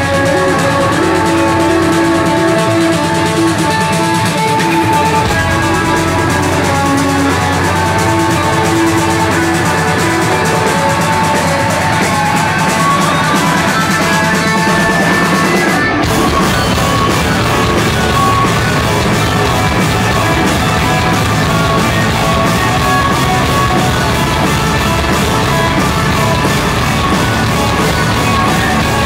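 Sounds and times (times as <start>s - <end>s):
drum kit: 0.0s - 29.0s
electric guitar: 0.0s - 29.0s.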